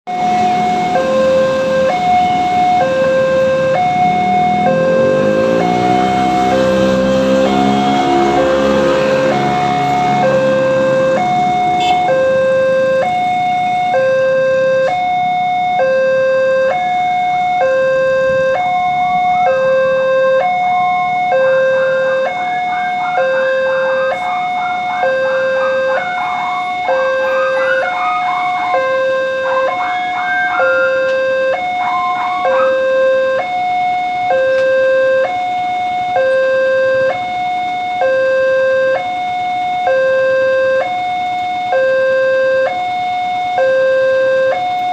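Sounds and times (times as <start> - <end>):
two-tone crossing alarm: 0.1 - 44.9.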